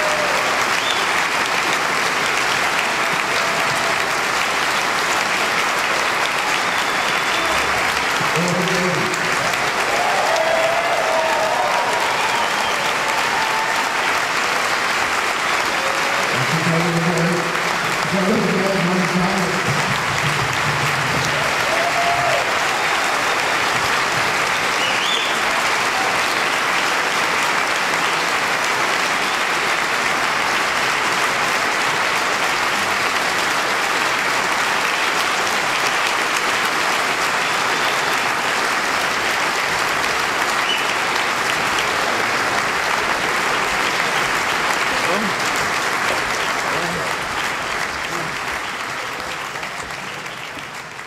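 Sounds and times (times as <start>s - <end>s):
audience applauding: 0.0s - 51.0s.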